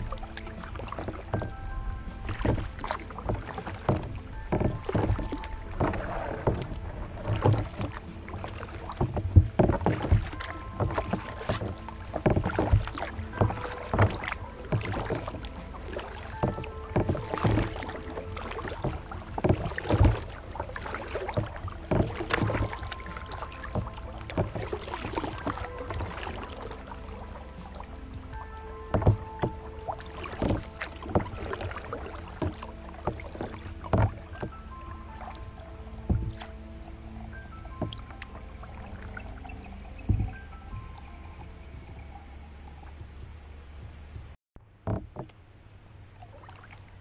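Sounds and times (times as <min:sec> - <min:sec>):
water dripping: 0:00.0 - 0:44.3
paddle splashing in water: 0:00.0 - 0:45.3, 0:46.0 - 0:47.0.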